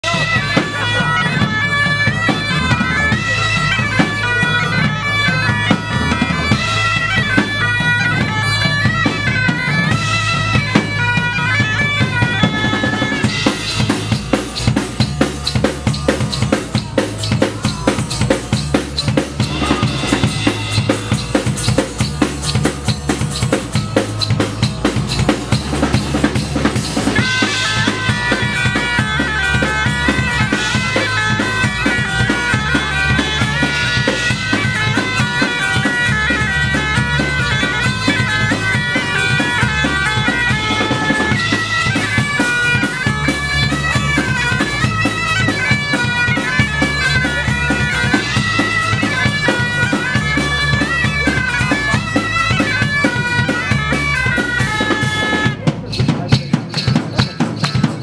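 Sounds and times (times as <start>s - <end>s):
bagpipes melody: 0.0s - 58.0s
bass guitar: 0.0s - 58.0s
drum kit groove: 0.0s - 58.0s
guitars: 0.0s - 58.0s.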